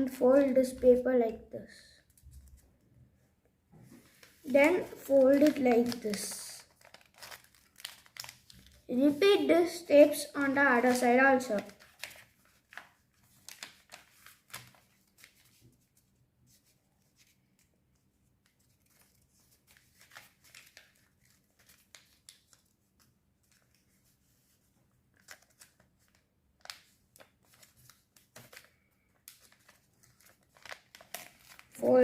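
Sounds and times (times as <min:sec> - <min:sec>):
paper rustling and crinkling: 0:02.0 - 0:02.9, 0:03.8 - 0:32.0.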